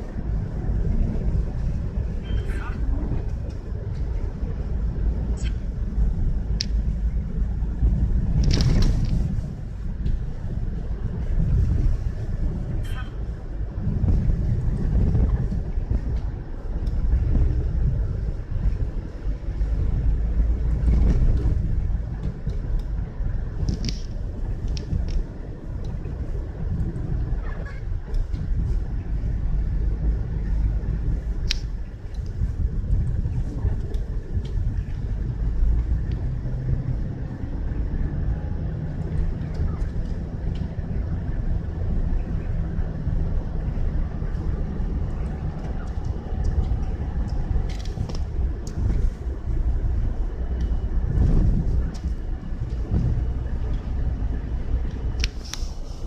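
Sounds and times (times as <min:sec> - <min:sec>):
car road and engine rumble: 0:00.0 - 0:56.0
gusting wind: 0:00.0 - 0:56.0.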